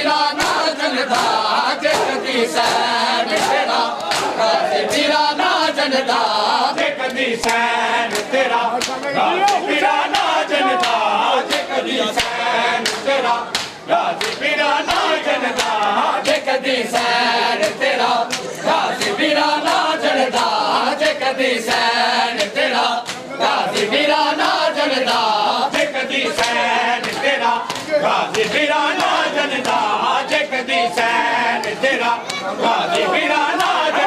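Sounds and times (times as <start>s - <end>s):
men chanting in unison: 0.0s - 34.0s
rhythmic chest-beating slaps: 0.0s - 34.0s.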